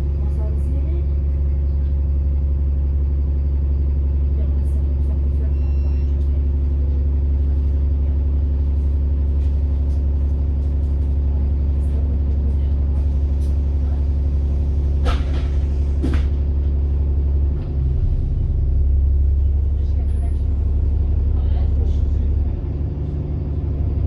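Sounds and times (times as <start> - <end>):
bus diesel engine droning: 0.0 - 24.0.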